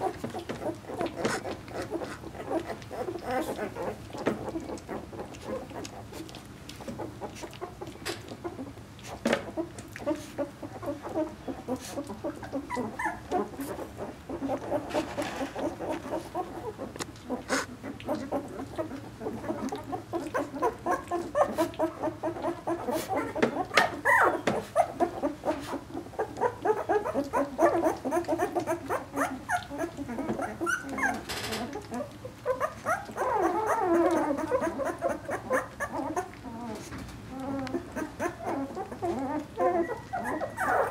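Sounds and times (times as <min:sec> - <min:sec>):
puppies squeaking and whimpering: 0:00.0 - 0:40.9.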